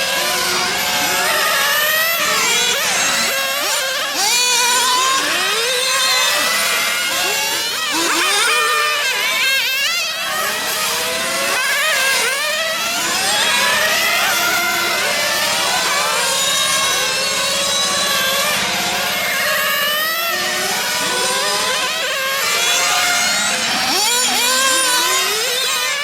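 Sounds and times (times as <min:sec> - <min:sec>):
rc car engines revving: 0:00.0 - 0:26.0.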